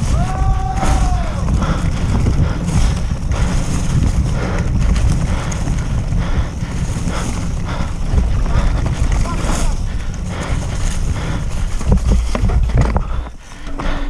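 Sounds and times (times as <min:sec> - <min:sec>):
wind rumble on microphone: 0:00.0 - 0:13.4
bike rattling over bumps: 0:00.0 - 0:14.0.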